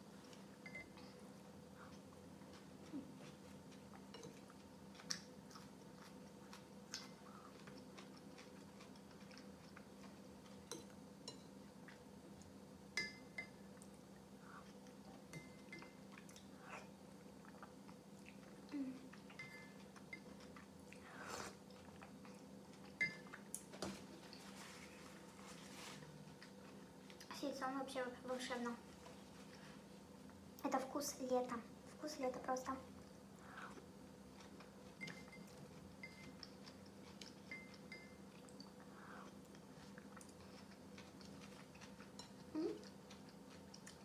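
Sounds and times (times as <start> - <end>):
faint steady hum: 0.0 - 44.0
soft chewing and mouth clicks: 0.2 - 27.4, 32.9 - 44.0.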